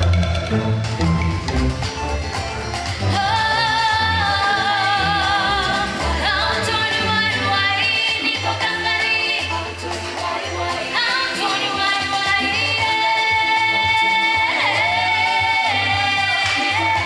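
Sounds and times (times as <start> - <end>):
pulsing bass line: 0.0 - 17.0.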